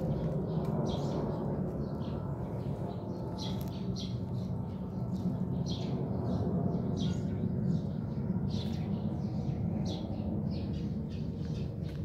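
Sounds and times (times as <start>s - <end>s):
small bird chirping: 0.0s - 12.0s
steady low rumble: 0.0s - 12.0s.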